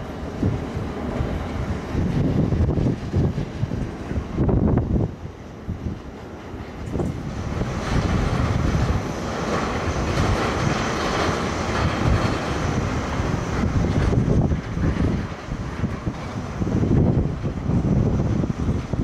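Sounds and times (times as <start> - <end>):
jet engine noise: 0.0 - 19.0
wind rumble on microphone: 0.0 - 19.0.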